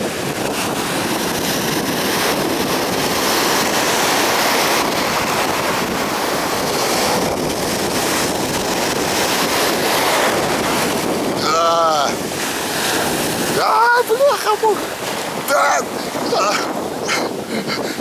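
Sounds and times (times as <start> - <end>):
sea surf breaking: 0.0 - 18.0
wind buffeting microphone: 0.0 - 18.0.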